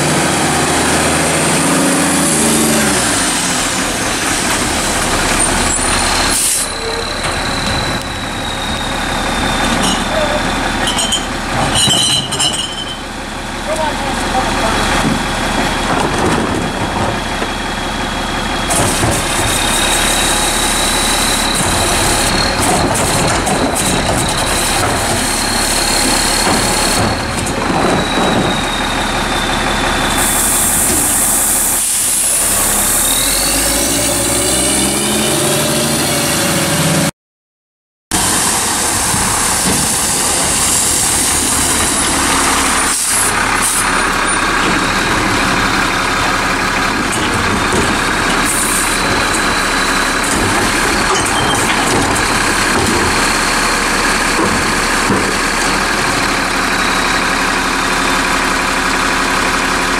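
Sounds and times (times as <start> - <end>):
garbage truck diesel engine idling: 0.0 - 11.6, 12.6 - 32.9, 38.2 - 59.9.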